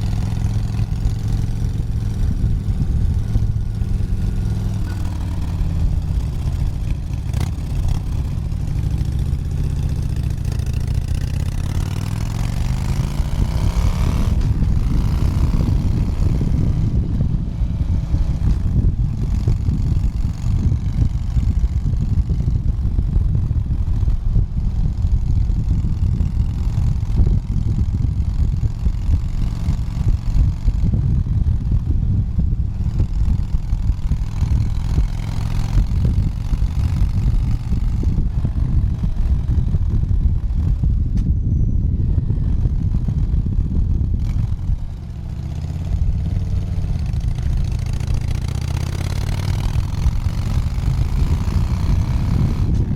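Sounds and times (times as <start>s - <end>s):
motorcycle engine accelerating: 0.0s - 52.9s
wind rush at speed: 0.0s - 52.9s.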